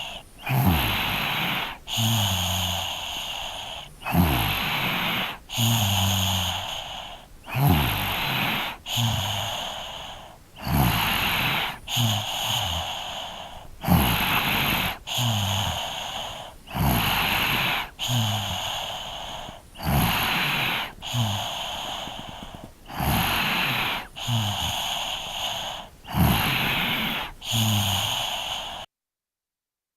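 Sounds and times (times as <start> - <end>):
child breathing in sleep: 0.0 - 28.9
child snoring rattle: 0.0 - 28.9.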